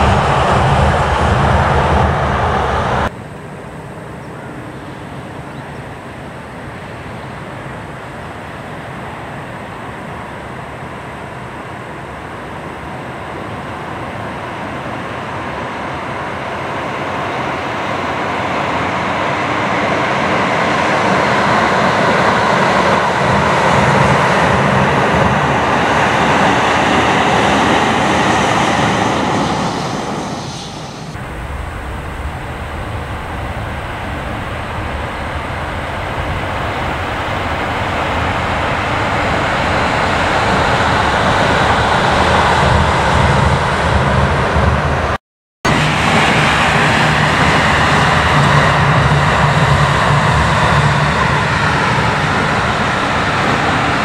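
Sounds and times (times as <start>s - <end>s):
train rumbling across steel bridge: 0.0s - 54.0s.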